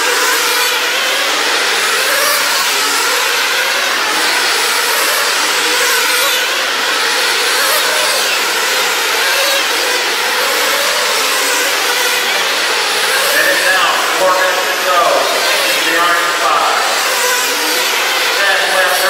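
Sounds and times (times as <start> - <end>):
model car engines buzzing: 0.0 - 19.0.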